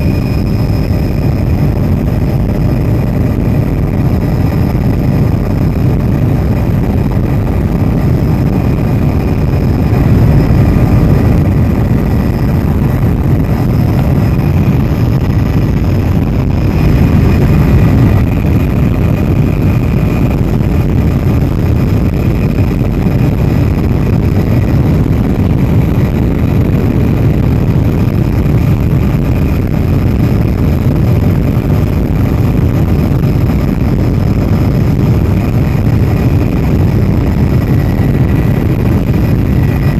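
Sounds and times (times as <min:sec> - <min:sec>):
faint high whine: 0:00.0 - 0:39.9
helicopter drone inside cabin: 0:00.0 - 0:39.9.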